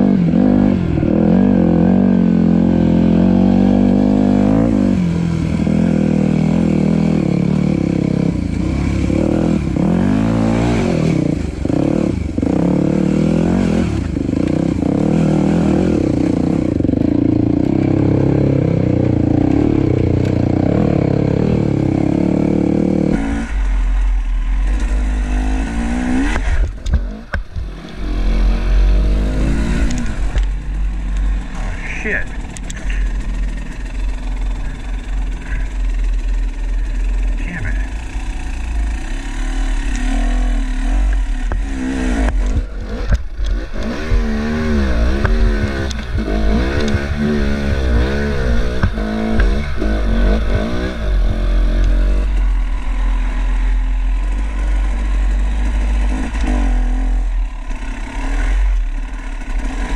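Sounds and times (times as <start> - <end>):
low rumble: 0.0 - 57.8
dirt bike engine revving: 0.0 - 59.9.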